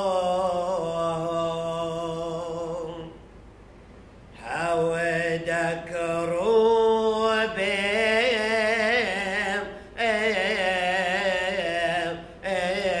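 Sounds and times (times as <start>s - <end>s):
man chanting a hymn: 0.0s - 3.2s, 4.4s - 13.0s.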